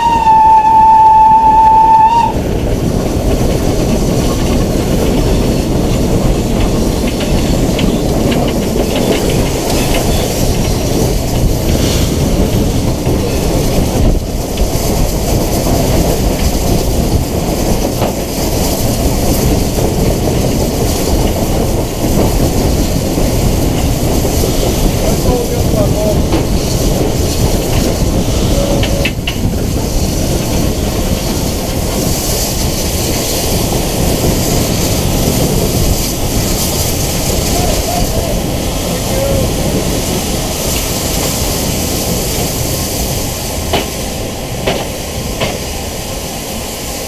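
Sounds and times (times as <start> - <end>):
steam locomotive rumbling: 0.0 - 47.0
wheels clicking over rail joints: 2.0 - 47.0.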